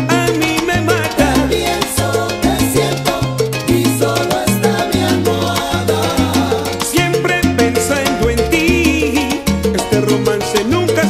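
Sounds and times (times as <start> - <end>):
salsa band playing: 0.0 - 11.0.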